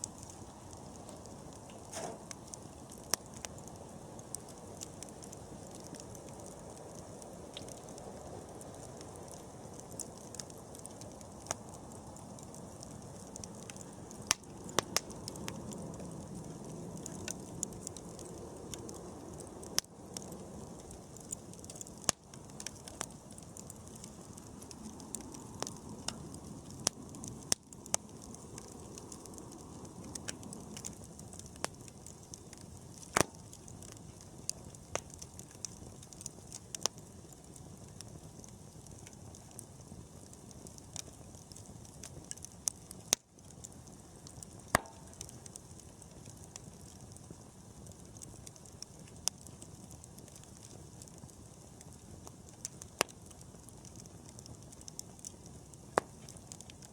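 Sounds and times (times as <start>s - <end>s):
campfire crackles and pops: 0.0s - 56.9s
low rush of flames: 0.0s - 56.9s.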